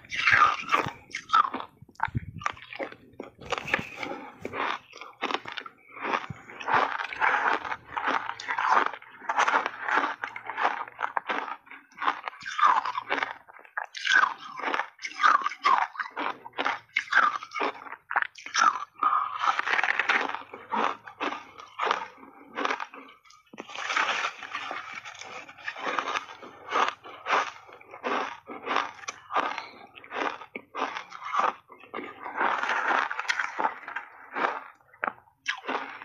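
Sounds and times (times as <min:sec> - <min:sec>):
ice being chewed: 0:00.0 - 0:36.0.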